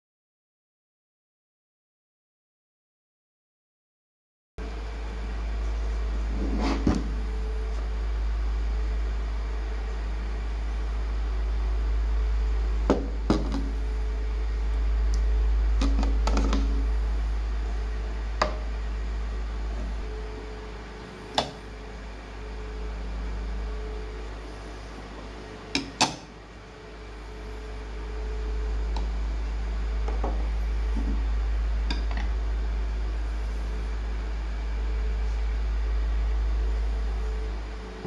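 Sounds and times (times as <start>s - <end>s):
steady low hum: 4.6s - 38.0s.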